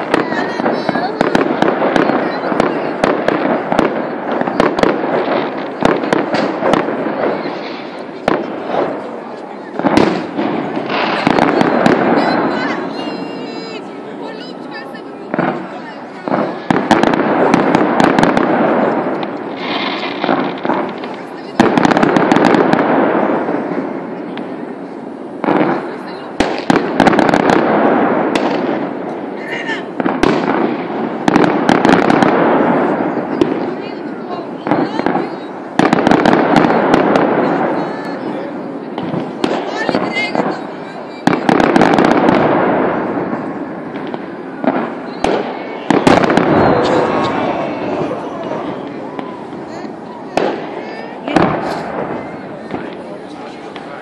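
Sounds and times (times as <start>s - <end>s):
fireworks bangs: 0.0s - 54.0s
fireworks crackle: 0.0s - 54.0s.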